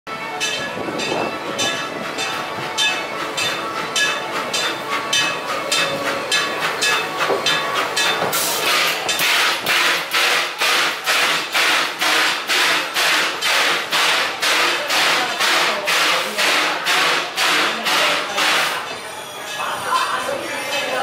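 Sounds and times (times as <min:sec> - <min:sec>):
steam locomotive chuffing: 0:00.4 - 0:19.7.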